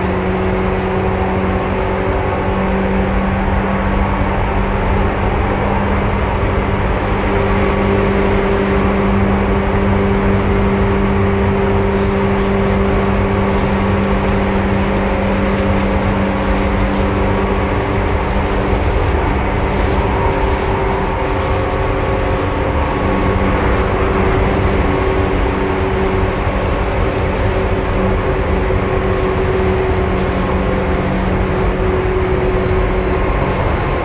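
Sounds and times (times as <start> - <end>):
train motor hum: 0.0 - 7.4, 8.3 - 34.0
rumble of wheels on rail: 0.0 - 34.0.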